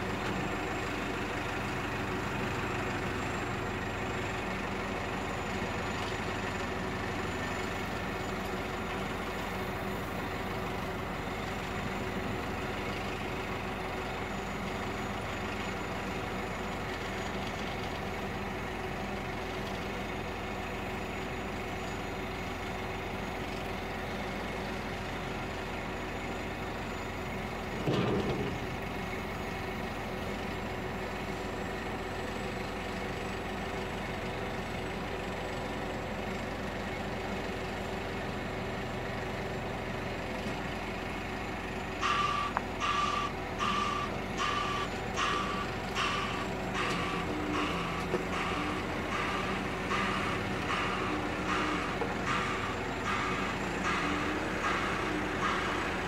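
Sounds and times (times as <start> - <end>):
dump truck diesel engine running: 0.0 - 56.0.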